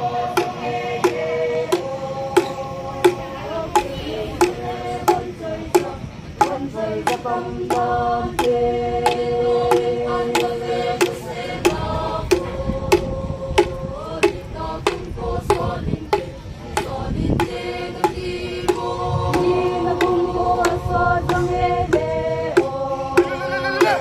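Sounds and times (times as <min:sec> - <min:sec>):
steady drum beat: 0:00.3 - 0:24.0.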